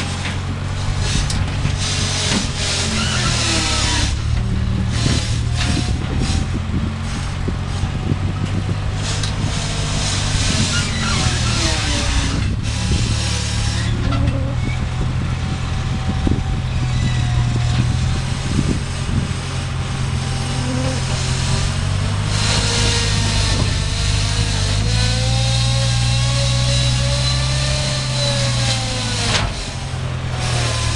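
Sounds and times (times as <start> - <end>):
skid steer engine under load: 0.0 - 30.9.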